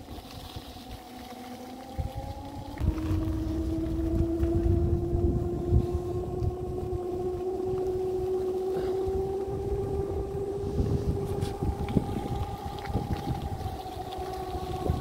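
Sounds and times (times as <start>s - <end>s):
electric motor whining: 0.0s - 15.0s
wind on microphone: 0.0s - 15.0s.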